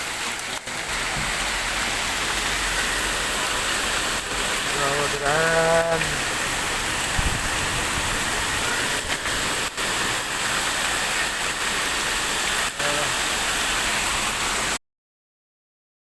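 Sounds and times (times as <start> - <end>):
heavy rain pouring: 0.0 - 14.8.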